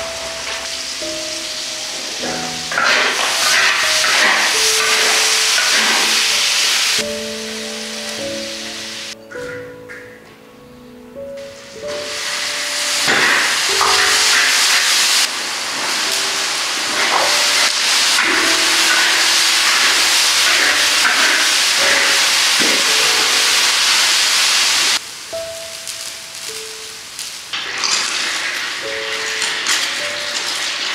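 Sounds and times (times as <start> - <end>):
vegetables sizzling loudly in oil: 0.0 - 9.2, 11.5 - 30.9.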